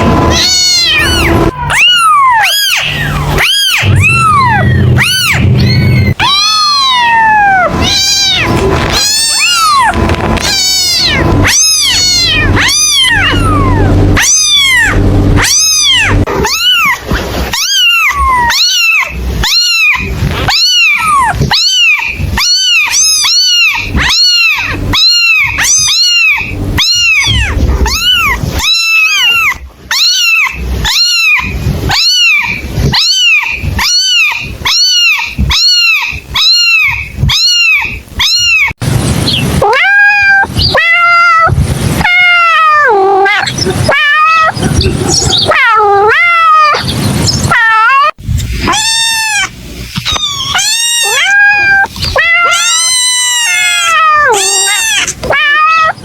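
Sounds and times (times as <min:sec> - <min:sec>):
low steady hum: 0:00.0 - 0:47.6
kitten meowing: 0:00.0 - 0:56.0.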